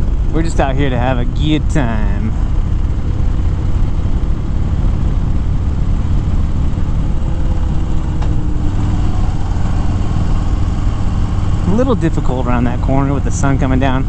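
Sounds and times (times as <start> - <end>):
motorcycle engine rumbling: 0.0 - 14.0
rushing wind: 0.0 - 14.0.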